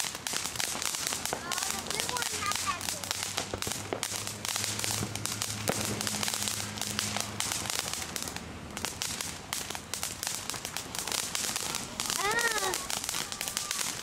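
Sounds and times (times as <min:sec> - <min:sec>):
firework fountain hissing: 0:00.0 - 0:14.0
rapid crackling pops: 0:00.0 - 0:14.0.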